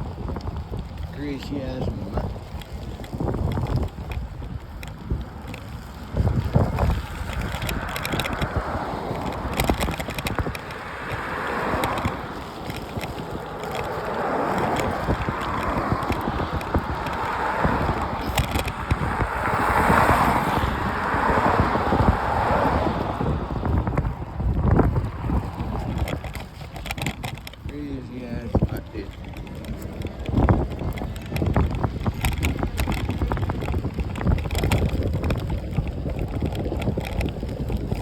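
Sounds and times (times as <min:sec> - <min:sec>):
bike tyres rolling on pavement: 0:00.0 - 0:38.0
wind buffeting microphone: 0:00.0 - 0:38.0.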